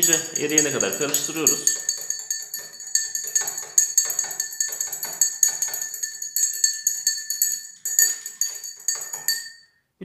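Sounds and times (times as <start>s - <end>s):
teaspoon clinking in glass: 0.0s - 9.7s.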